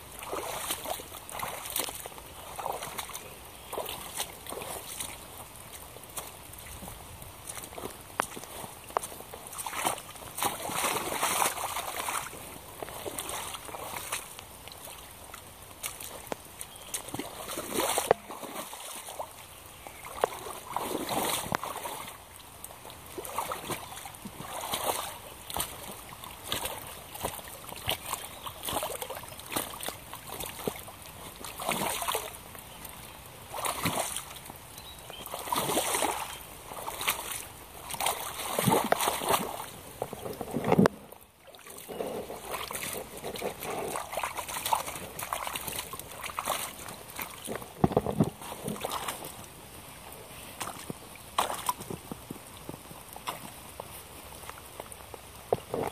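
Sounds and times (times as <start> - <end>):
boots splashing through puddle: 0.0 - 55.9.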